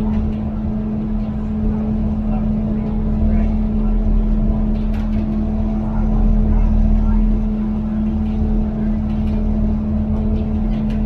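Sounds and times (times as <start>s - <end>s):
train diesel engine drone: 0.0s - 11.0s.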